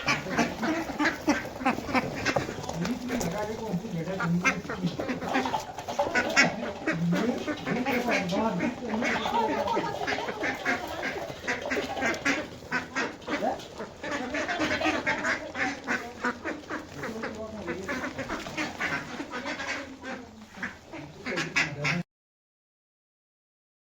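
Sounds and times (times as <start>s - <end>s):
ducks quacking: 0.0s - 22.1s.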